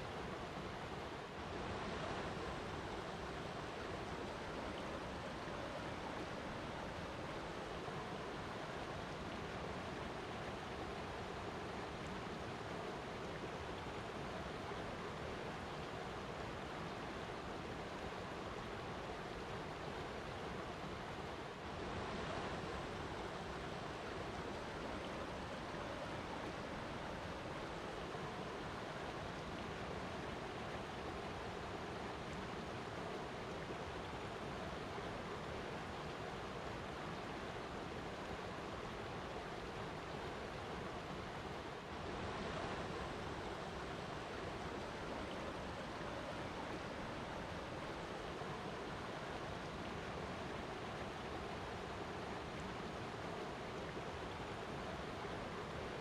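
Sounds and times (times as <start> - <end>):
flowing water rush: 0.0 - 56.0.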